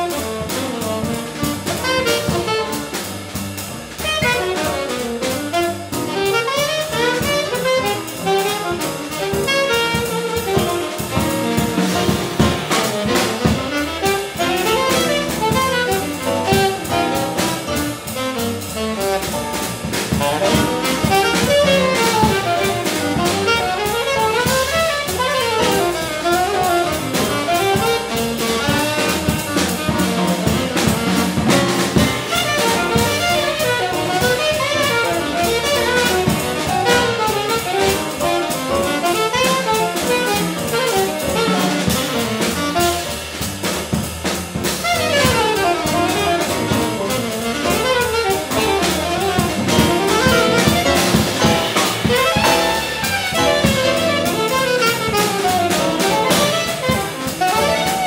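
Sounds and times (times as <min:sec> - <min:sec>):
saxophone melody: 0:00.0 - 0:03.3, 0:03.9 - 0:43.6, 0:44.2 - 0:58.0
drum kit with cymbals: 0:00.0 - 0:58.0
stage piano: 0:00.0 - 0:58.0
upright double bass: 0:00.0 - 0:58.0.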